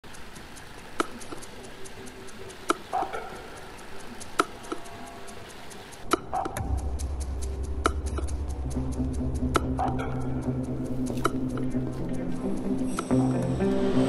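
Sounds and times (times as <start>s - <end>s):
soft ticking: 0.0s - 13.1s.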